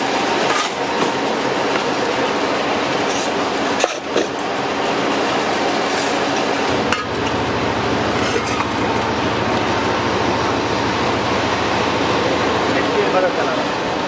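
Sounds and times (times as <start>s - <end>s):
factory machinery pulsing: 0.0s - 14.0s.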